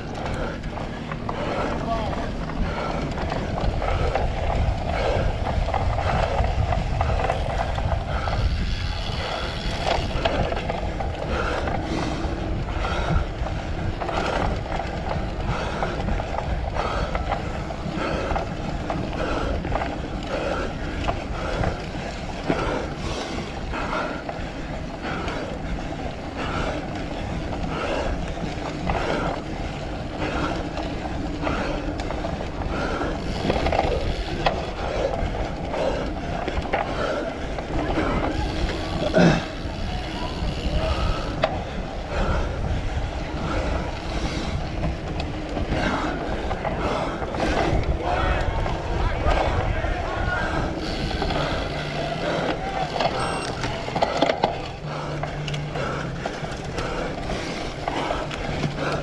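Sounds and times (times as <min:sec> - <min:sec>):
bike rattling: 0:00.0 - 0:59.0
tyres rumbling: 0:00.0 - 0:59.0
wind buffeting microphone: 0:00.0 - 0:59.0.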